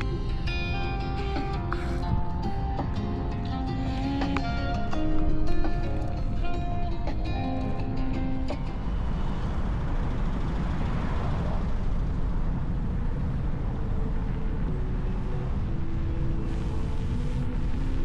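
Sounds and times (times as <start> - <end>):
faint steady tones: 0.0 - 18.0
low rumbling noise: 0.0 - 18.0.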